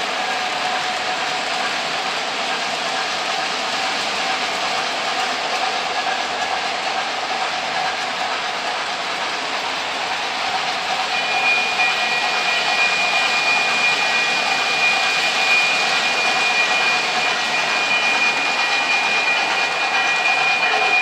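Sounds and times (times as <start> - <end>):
locomotive high whine: 0.0 - 21.0
model train wheels rumbling: 0.0 - 21.0.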